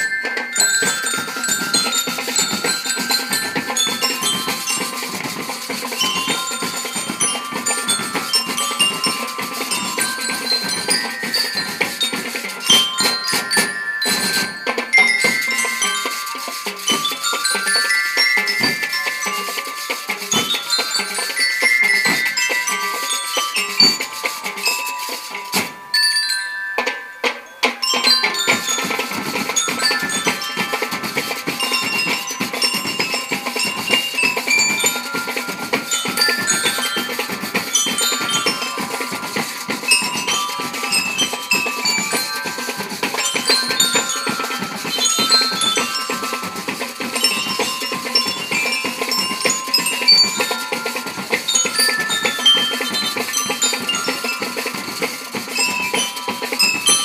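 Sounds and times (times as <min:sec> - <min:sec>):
snare drum beat: 0:00.0 - 0:25.8, 0:27.8 - 0:57.0
bell lyres playing melody: 0:00.0 - 0:57.0.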